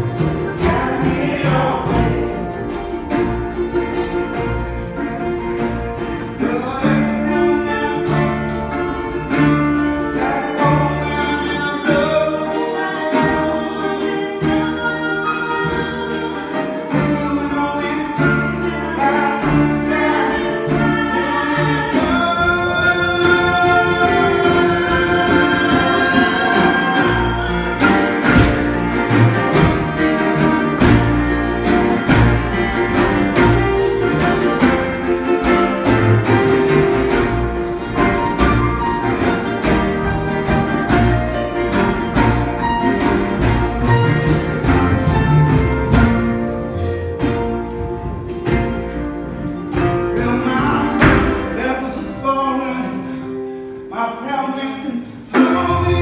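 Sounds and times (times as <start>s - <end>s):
acoustic guitar: 0.0s - 56.0s
double bass: 0.0s - 56.0s.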